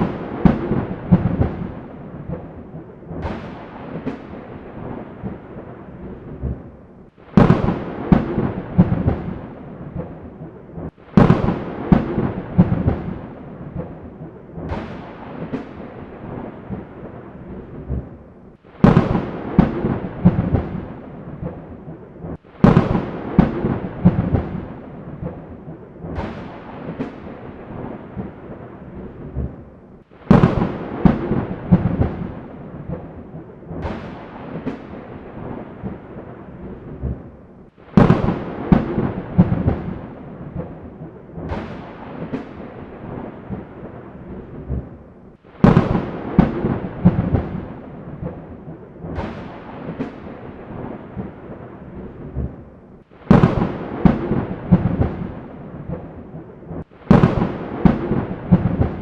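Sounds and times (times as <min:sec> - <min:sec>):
steady rain: 0:00.0 - 0:59.0
thunder cracking and rumbling: 0:00.0 - 0:59.0.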